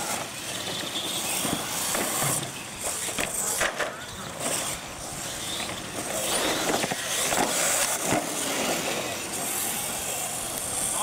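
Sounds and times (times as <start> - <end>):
toy truck motors hissing: 0.0 - 11.0.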